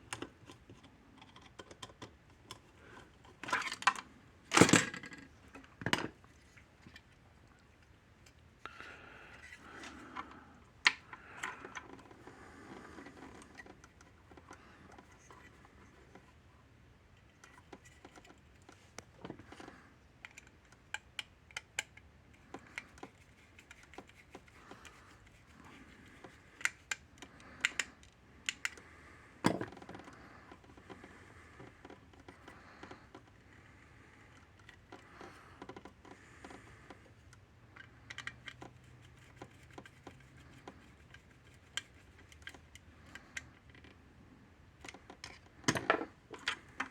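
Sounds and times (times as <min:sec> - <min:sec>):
small clicks of parts and tools: 0:00.0 - 0:16.4, 0:17.1 - 0:44.0, 0:44.8 - 0:46.9.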